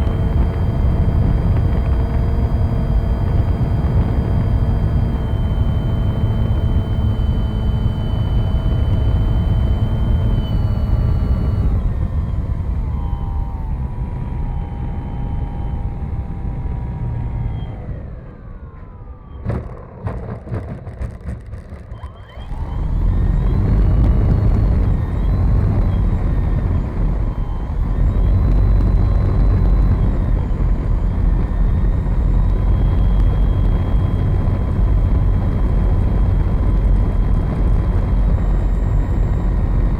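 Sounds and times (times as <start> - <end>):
model airplane motor whining: 0.0 - 19.3, 22.0 - 39.9.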